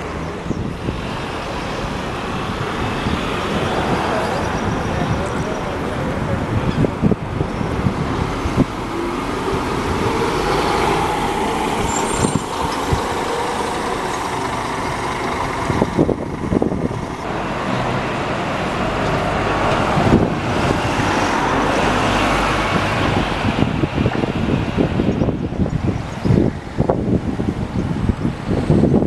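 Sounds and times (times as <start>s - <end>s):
bus engines pulling away: 0.0s - 29.0s
passing traffic: 0.0s - 29.0s.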